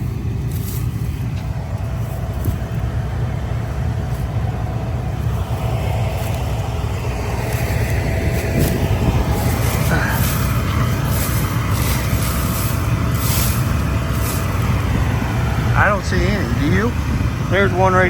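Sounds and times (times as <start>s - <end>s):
combine harvester rumbling: 0.0s - 18.0s
faint steady whine: 0.0s - 18.0s.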